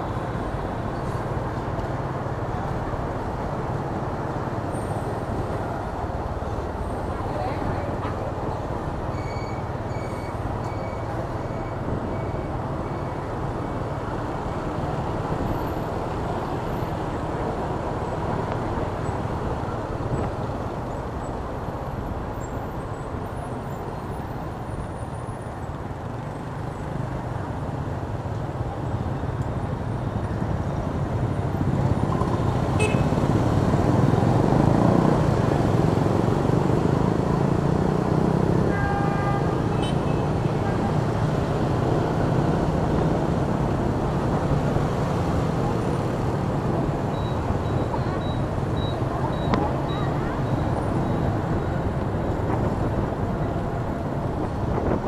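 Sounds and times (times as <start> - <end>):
road noise: 0.0 - 55.0
traffic engines rumbling: 0.0 - 55.0.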